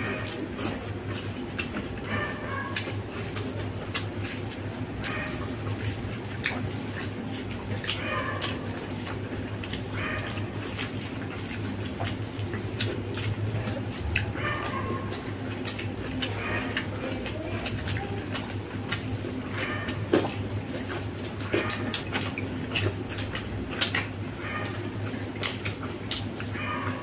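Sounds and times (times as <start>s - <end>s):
chewing and lip-smacking: 0.0s - 27.0s
hands squelching in wet food: 0.0s - 27.0s.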